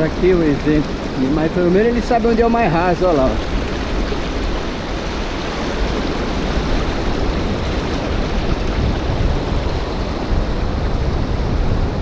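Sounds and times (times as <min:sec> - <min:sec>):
surf on beach: 0:00.0 - 0:12.0
wind: 0:00.0 - 0:12.0.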